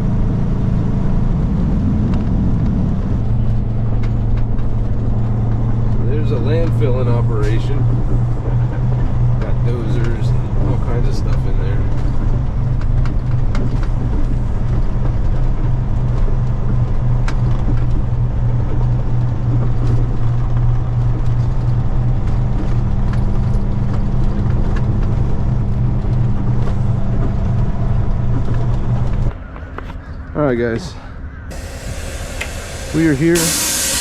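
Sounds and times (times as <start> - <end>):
diesel truck engine droning: 0.0 - 34.0.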